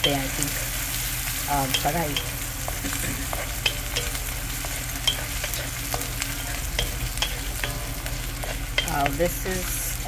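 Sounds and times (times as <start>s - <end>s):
onions sizzling in oil: 0.0s - 10.0s
wooden spatula scraping a pan: 1.8s - 10.0s.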